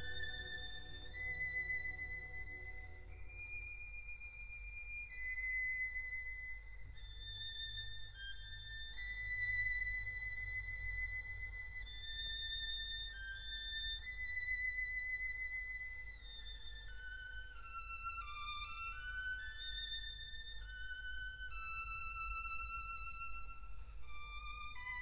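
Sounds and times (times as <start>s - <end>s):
slow solo violin melody: 0.0s - 25.0s.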